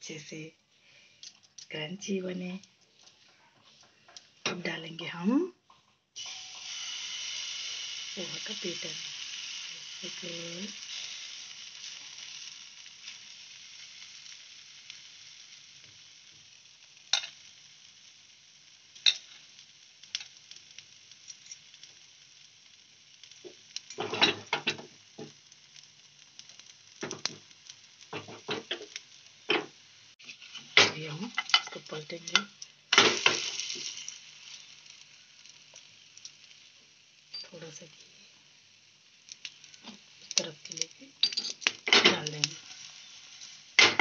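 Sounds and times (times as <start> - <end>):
batter sizzling in frying pan: 0.0 - 44.0.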